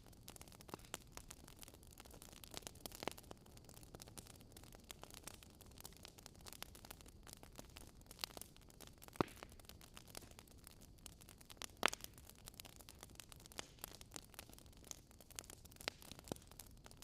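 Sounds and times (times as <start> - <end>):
faint steady hiss: 0.0 - 17.0
fireplace fire crackling: 0.0 - 17.0.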